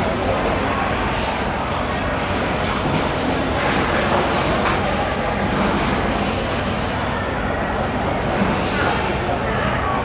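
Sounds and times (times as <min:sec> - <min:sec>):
loud rumbling background noise: 0:00.0 - 0:10.0.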